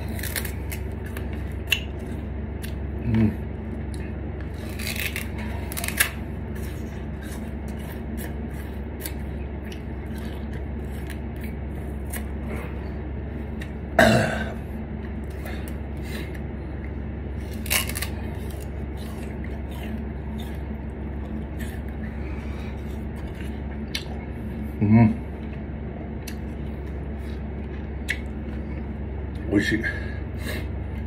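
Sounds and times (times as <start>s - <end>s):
chewing sugarcane crunching: 0.0s - 29.7s
steady low hum: 0.0s - 31.0s.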